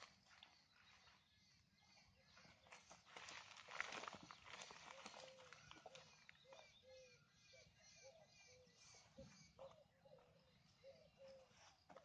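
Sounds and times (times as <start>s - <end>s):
faint bird calling: 0.0s - 12.0s.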